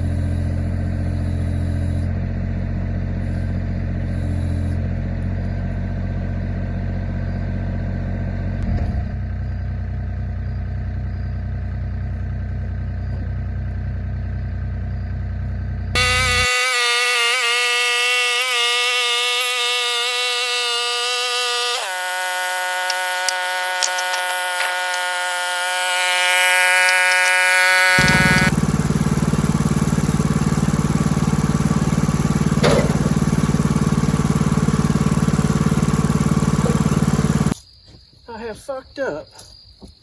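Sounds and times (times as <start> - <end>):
engine running: 0.0 - 37.6
rough rumbling engine: 0.0 - 37.6.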